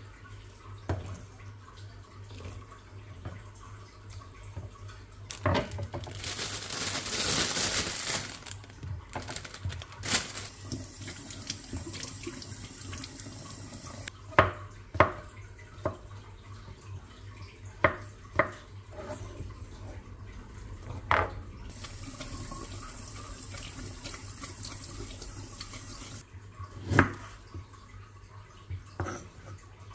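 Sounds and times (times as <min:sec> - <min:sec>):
water running: 0:00.0 - 0:29.9.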